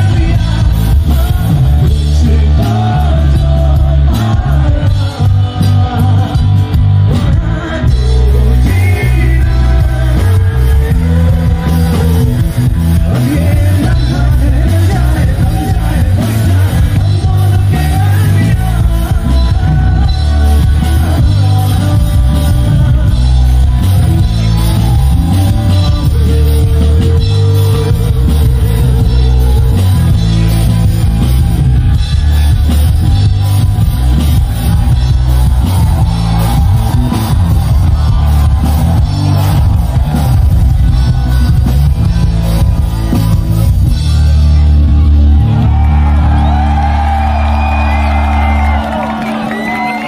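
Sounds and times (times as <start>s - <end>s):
crowd shouting and whooping: 0.0s - 50.0s
live rock band playing loud: 0.0s - 50.0s.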